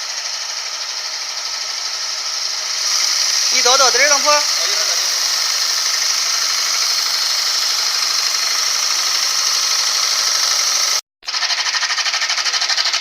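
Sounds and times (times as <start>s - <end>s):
lathe cutter hissing: 0.0s - 13.0s.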